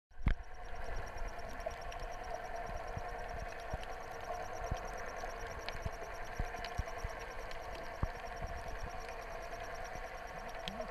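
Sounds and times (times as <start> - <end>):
muffled underwater engine hum: 0.1 - 10.9
faint fast ticking: 0.4 - 10.9.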